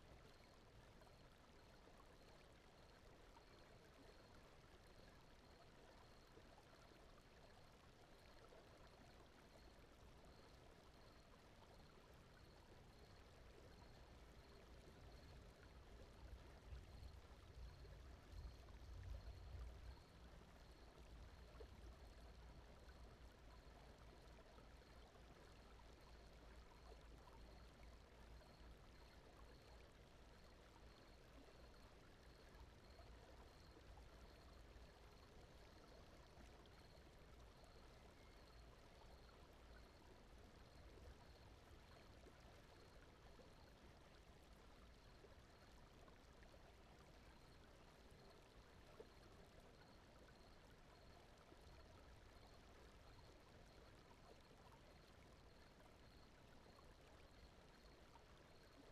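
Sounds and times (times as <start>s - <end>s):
faint brown noise: 0.0s - 58.9s.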